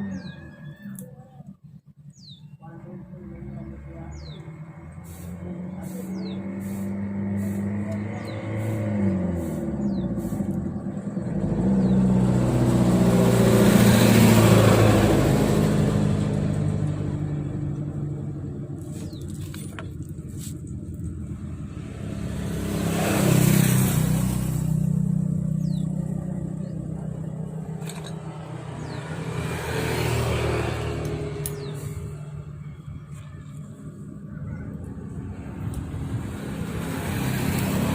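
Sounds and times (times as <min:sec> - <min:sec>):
motorcycle engine running: 0:01.9 - 0:37.9.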